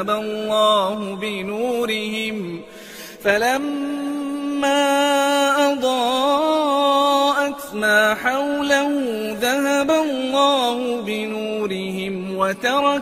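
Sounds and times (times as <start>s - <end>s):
solo voice chanting: 0.0s - 13.0s.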